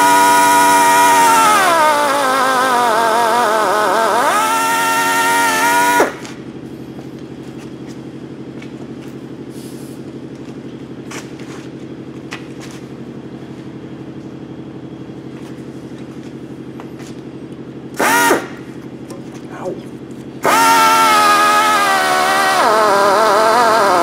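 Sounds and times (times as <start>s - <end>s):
shop machine humming: 0.0s - 24.0s.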